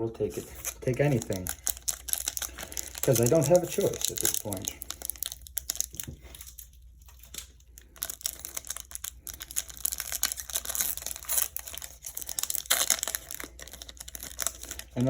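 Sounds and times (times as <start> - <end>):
foil wrapper crinkling and tearing: 0.3 - 15.0.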